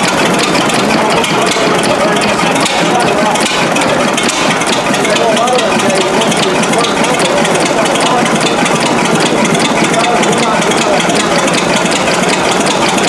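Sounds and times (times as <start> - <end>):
engine mechanical clatter: 0.0 - 13.0.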